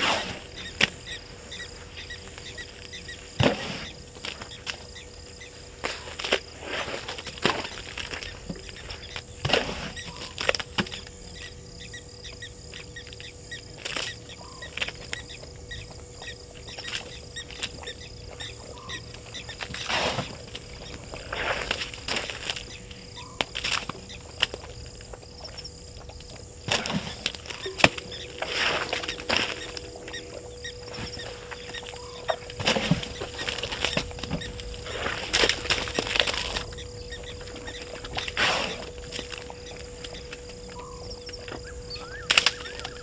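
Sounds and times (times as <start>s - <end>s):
insects trilling: 0.0s - 43.0s
low hum: 0.0s - 43.0s
sharp cracks and crunches: 2.4s - 11.2s, 12.7s - 15.5s, 16.7s - 43.0s.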